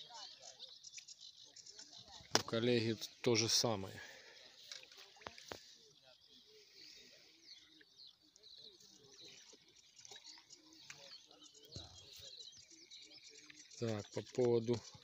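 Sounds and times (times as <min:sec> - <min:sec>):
faint distant voices: 0:00.0 - 0:15.0
small birds chirping and trilling: 0:00.0 - 0:15.0.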